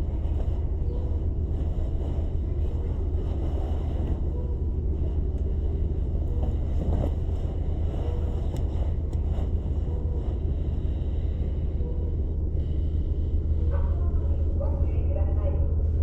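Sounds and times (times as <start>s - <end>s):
electric train humming: 0.0s - 14.6s.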